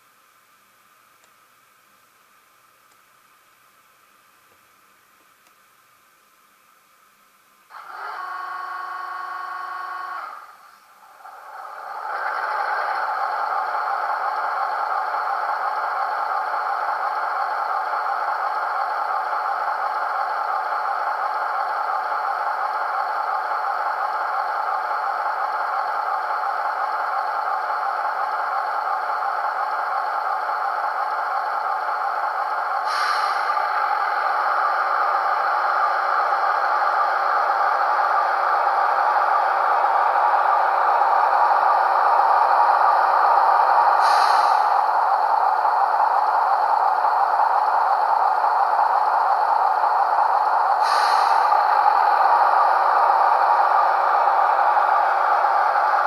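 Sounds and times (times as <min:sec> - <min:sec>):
diesel engine starting and idling: 0:07.7 - 0:56.0.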